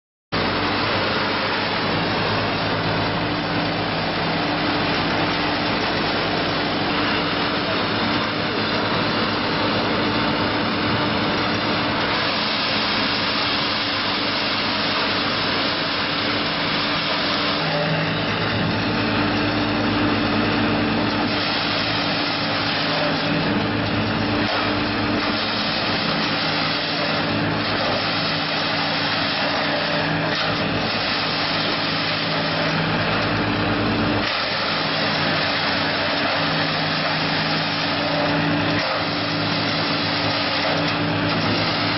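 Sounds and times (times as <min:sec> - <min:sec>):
wood chipper running: 0:00.3 - 0:41.9.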